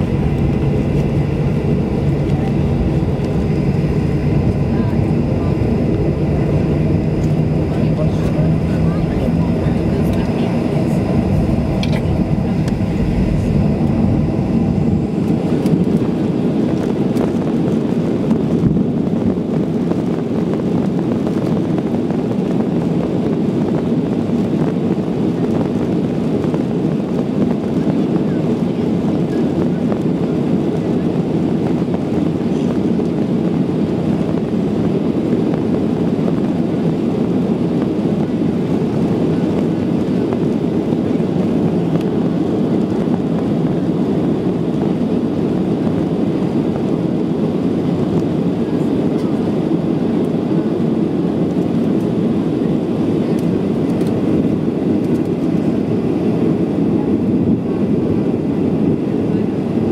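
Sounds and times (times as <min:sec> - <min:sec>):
jet engines at takeoff in cabin: 0:00.0 - 0:59.9.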